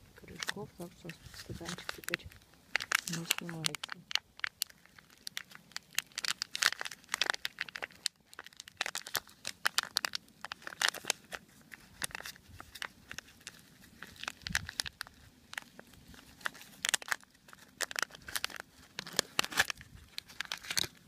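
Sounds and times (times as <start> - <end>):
plastic crackling and snapping: 0.0 - 21.0.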